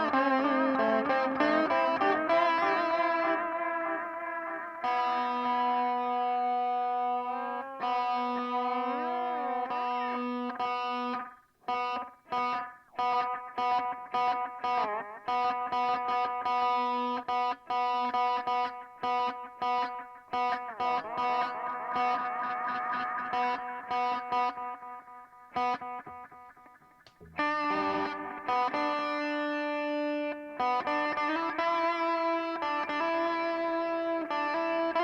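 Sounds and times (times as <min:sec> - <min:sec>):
electric guitar with delay: 0:00.0 - 0:35.0.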